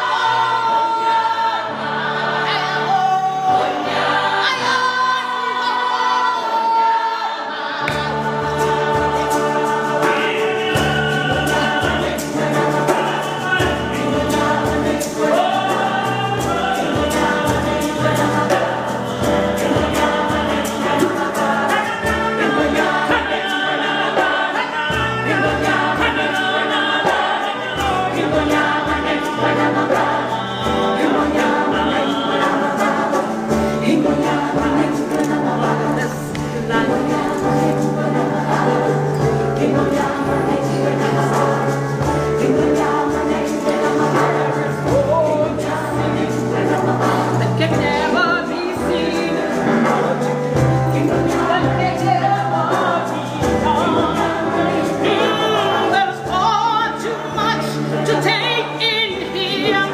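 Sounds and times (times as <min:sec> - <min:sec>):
choir singing gospel: 0:00.0 - 0:59.9.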